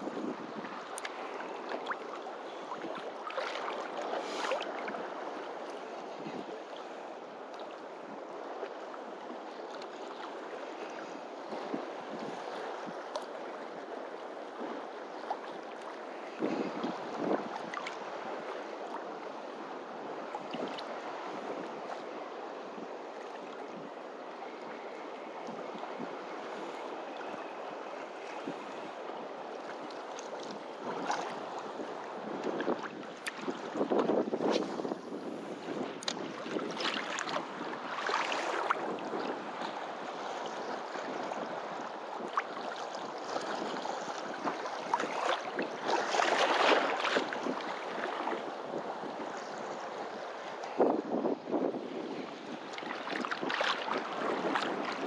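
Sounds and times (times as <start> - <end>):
small waves washing on beach: 0.0 - 55.0
steady wind: 0.0 - 55.0.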